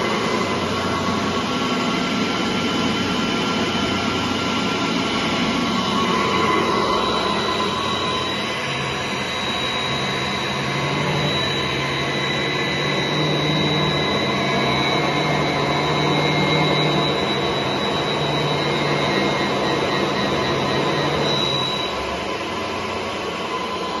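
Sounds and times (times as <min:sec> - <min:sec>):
fan-like rush: 0:00.0 - 0:20.8
electric motor hum and whine: 0:00.0 - 0:24.0.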